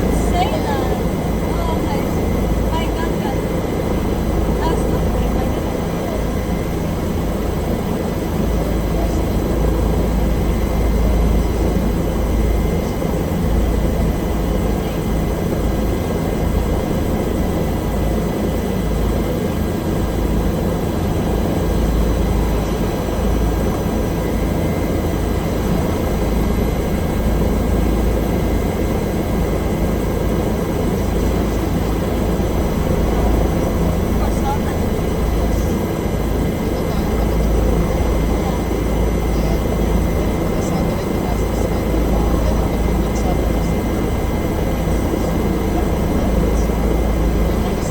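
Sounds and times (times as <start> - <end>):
helicopter rotor drone: 0.0 - 47.9
thin steady whine: 0.0 - 47.9.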